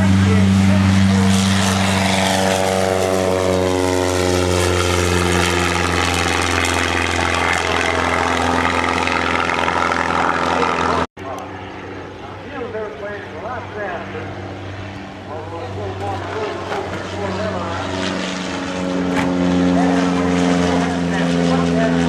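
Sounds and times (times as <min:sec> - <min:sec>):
propeller plane flying past: 0:00.0 - 0:22.0.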